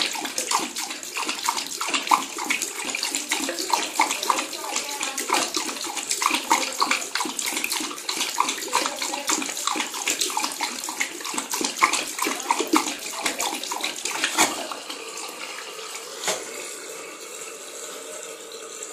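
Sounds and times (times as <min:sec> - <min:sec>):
dog lapping water: 0:00.0 - 0:18.9
water running from tap: 0:00.0 - 0:18.9.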